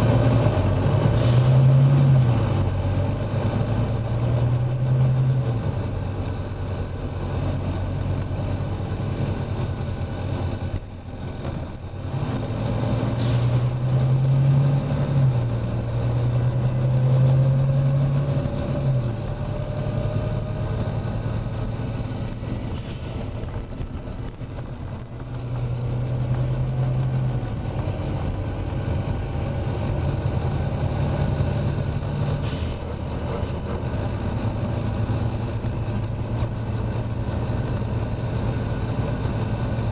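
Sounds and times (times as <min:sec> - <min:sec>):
diesel bus engine under load: 0:00.0 - 0:39.9.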